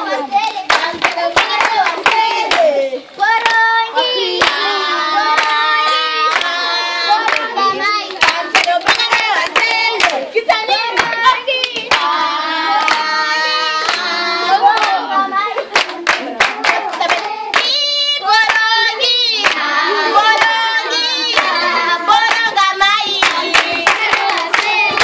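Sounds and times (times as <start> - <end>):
group singing together: 0.0 - 25.0
hands clapping: 0.4 - 2.7, 3.4 - 3.7, 4.4 - 15.0, 15.6 - 18.8, 19.4 - 25.0.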